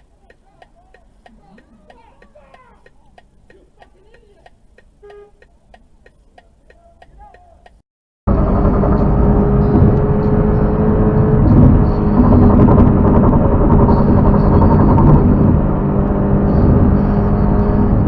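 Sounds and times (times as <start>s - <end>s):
road noise: 0.0s - 18.0s
vehicle engine drone: 0.0s - 18.0s.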